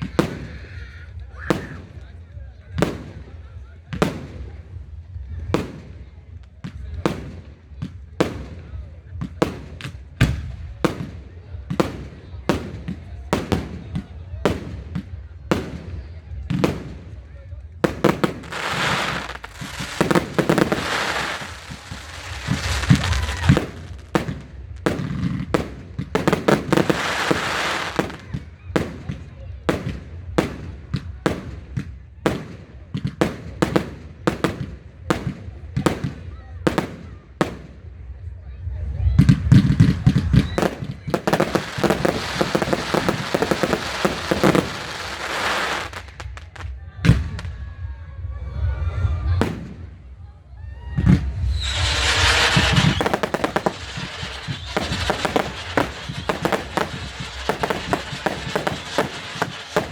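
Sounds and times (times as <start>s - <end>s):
fireworks bangs: 0.0s - 38.2s, 39.1s - 47.7s, 49.2s - 50.2s, 51.0s - 59.9s
fireworks crackling and hissing: 0.0s - 38.3s, 39.0s - 47.6s, 51.0s - 59.9s.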